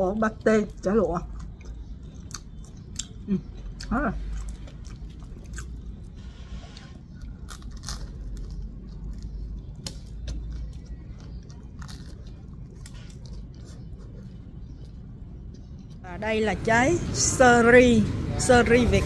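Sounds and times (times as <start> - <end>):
person chewing crusty bread: 0.1 - 16.0.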